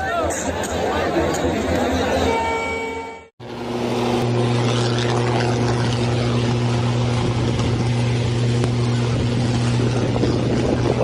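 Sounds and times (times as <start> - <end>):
vehicle engine humming: 0.2 - 11.0.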